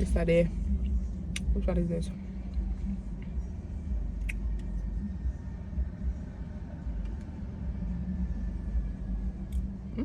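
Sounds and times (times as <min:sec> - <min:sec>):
car engine idling: 0:00.0 - 0:10.0
faint steady whine: 0:00.0 - 0:10.0.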